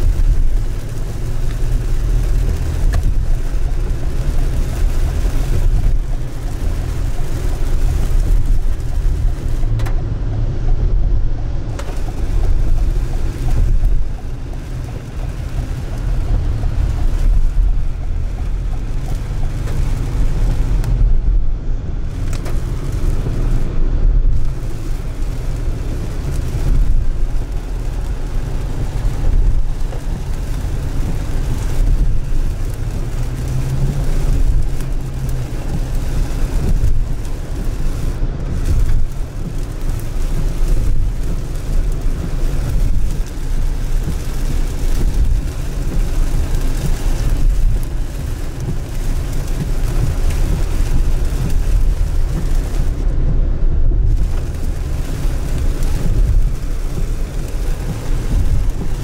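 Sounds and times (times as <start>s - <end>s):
car road and engine rumble: 0.0s - 59.0s
rain and wet tyres hissing: 0.0s - 59.0s.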